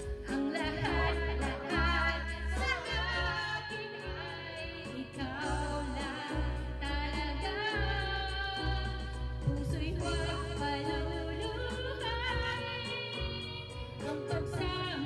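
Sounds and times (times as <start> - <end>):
karaoke backing track: 0.0 - 15.0
woman singing karaoke: 0.0 - 15.0.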